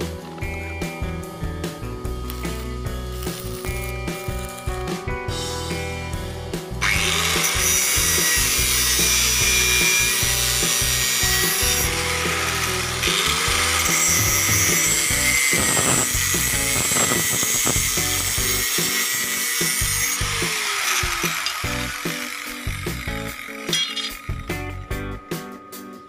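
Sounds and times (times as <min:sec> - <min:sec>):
background music: 0:00.0 - 0:26.0
angle grinder grinding metal: 0:02.2 - 0:04.9, 0:06.8 - 0:25.2.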